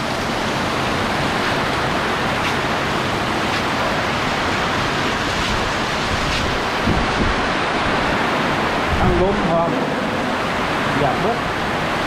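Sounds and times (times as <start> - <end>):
heavy rain pouring: 0.0 - 12.0
strong wind: 0.0 - 12.0.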